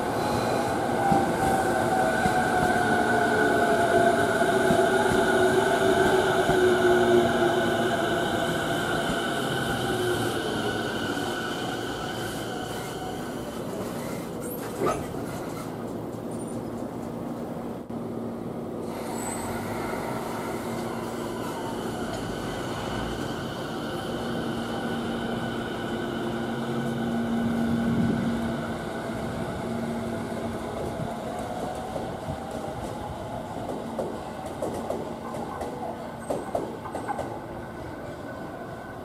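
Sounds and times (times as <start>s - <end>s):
train wheels rumbling on rails: 0.0s - 17.6s, 18.8s - 38.0s.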